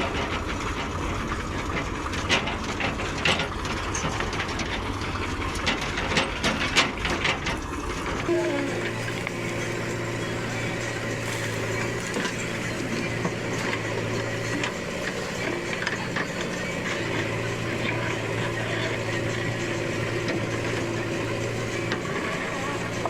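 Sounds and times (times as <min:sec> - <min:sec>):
diesel machinery engine running: 0:00.0 - 0:23.0.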